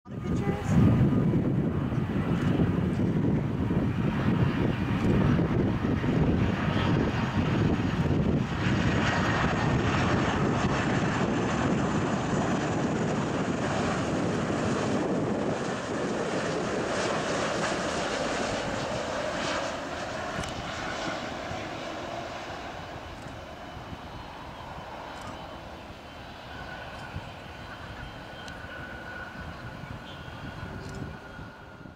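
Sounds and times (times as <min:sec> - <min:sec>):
jet engine rumble: 0:00.1 - 0:31.9.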